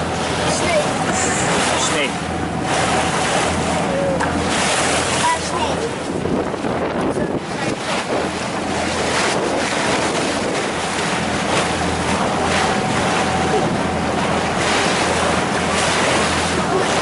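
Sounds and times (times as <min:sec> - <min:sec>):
boat engine humming: 0:00.0 - 0:17.0
waves splashing against hull: 0:00.0 - 0:17.0
wind buffeting microphone: 0:00.0 - 0:17.0.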